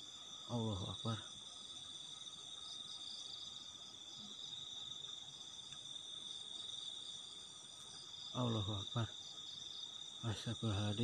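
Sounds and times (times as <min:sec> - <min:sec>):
crickets trilling: 0:00.0 - 0:11.0
insects chirping: 0:00.0 - 0:11.0.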